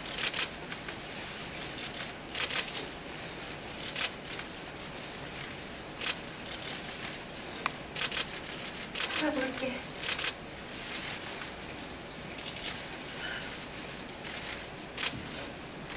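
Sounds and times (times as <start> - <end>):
soft noise bursts: 0.0 - 15.9.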